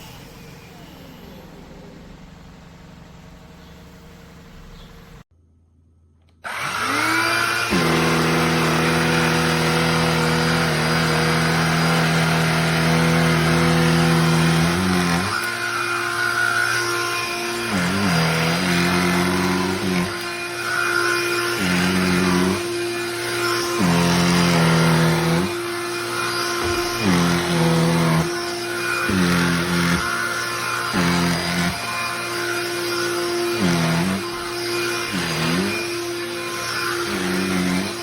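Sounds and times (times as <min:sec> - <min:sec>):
handheld vacuum motor whine: 0:00.0 - 0:02.3, 0:06.3 - 0:38.0.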